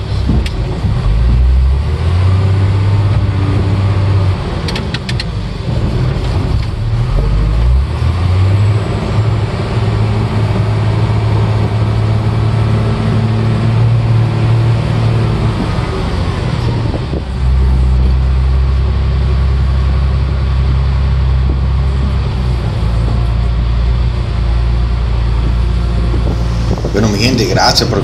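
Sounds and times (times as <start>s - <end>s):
diesel engine low drone: 0.0s - 28.0s.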